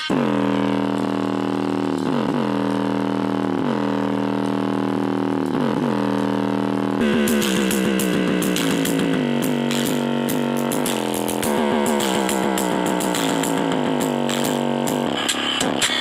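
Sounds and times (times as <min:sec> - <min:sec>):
buzzy electronic bass drone: 0:00.0 - 0:16.0
rhythmic electronic pattern with ticks: 0:00.0 - 0:16.0.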